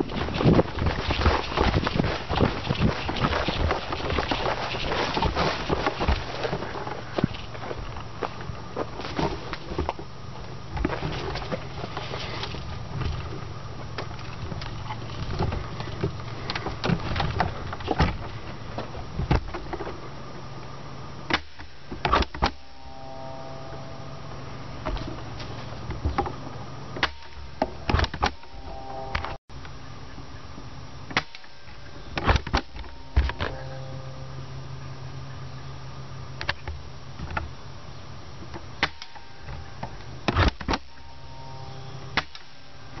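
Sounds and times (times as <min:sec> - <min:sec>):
low rumble of handling noise: 0:00.0 - 0:43.0.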